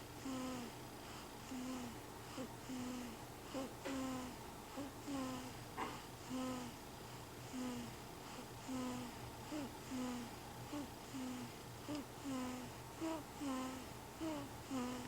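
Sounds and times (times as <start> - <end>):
snoring: 0.2 - 0.7, 1.4 - 6.8, 7.4 - 15.0.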